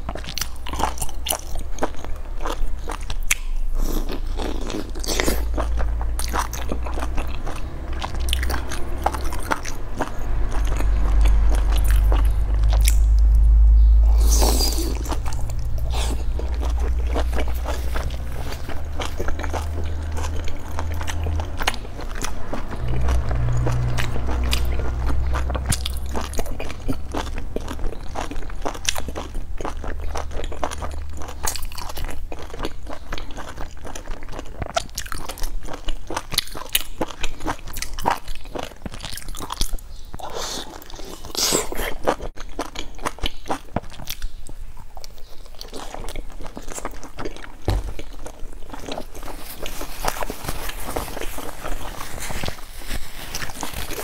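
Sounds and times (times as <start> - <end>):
person chewing food: 0.0 - 13.5, 14.1 - 54.0.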